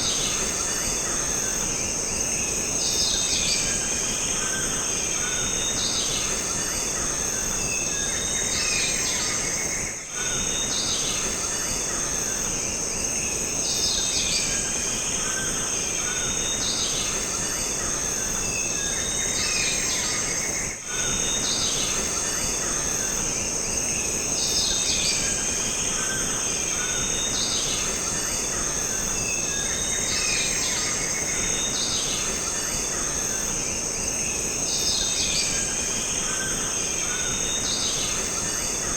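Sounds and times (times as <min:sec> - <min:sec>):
bird and insect calls: 0:00.0 - 0:38.9.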